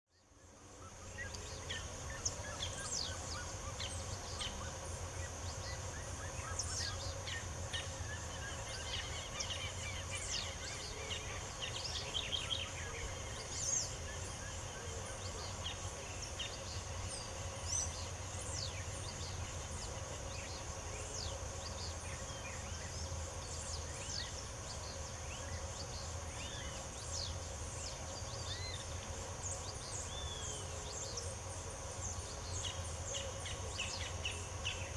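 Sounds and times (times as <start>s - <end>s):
songbirds chirping: 0.1s - 34.9s
low background hum: 0.2s - 34.9s.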